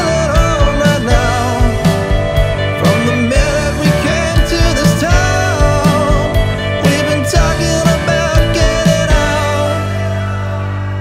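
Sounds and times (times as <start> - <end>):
pitch-sliding melody: 0.0 - 11.0.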